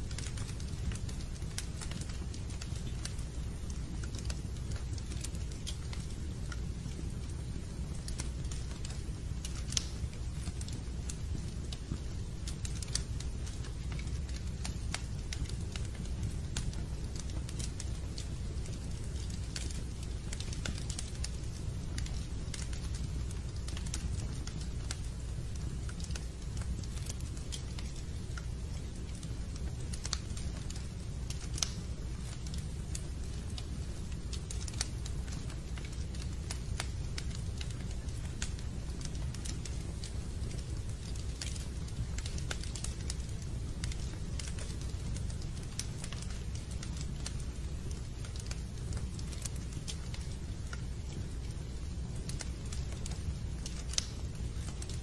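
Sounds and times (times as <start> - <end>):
fireplace crackling: 0.0 - 55.0.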